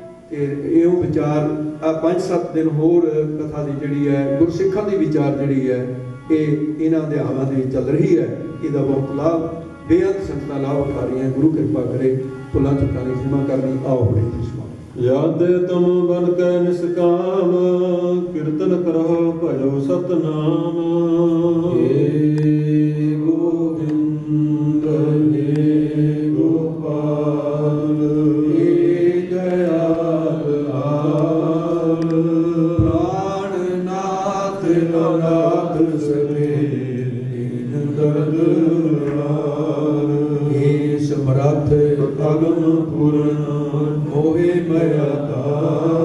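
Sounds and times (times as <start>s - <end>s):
devotional chanting voices: 0.0s - 46.0s.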